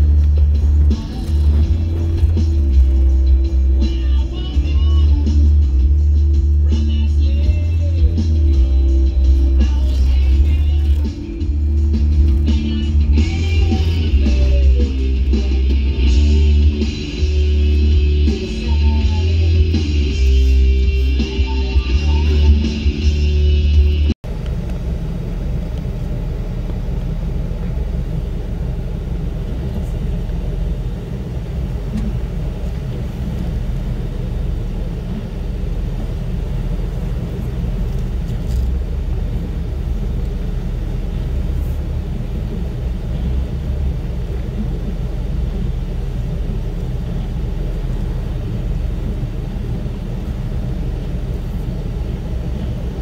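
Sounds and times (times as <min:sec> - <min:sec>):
vehicle engine low rumble: 0:00.0 - 0:53.0.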